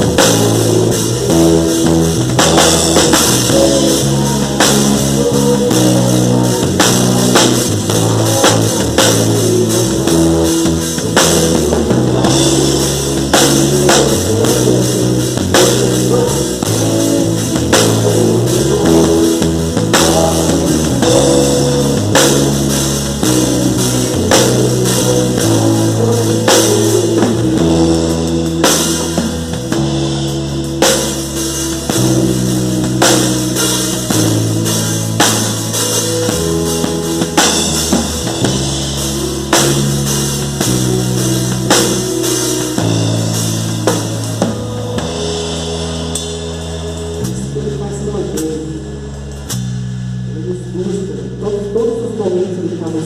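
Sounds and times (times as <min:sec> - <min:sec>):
bass line: 0:00.0 - 0:53.0
drum kit: 0:00.0 - 0:53.0
guitar: 0:00.0 - 0:53.0.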